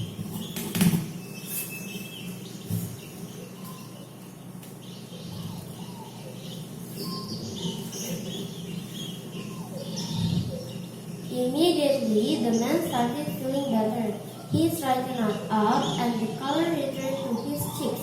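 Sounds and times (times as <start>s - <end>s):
birds chirping: 0.0s - 18.0s
low steady hum: 0.0s - 18.0s.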